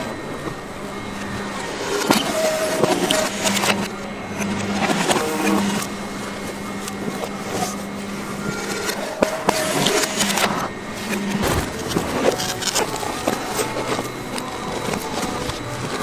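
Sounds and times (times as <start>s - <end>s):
machine motor humming: 0.0s - 16.0s.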